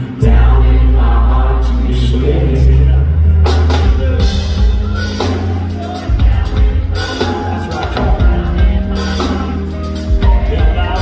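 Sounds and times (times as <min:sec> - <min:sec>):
drums: 0:00.0 - 0:11.0
live pop-rock band: 0:00.0 - 0:11.0
strong bass: 0:00.0 - 0:11.0.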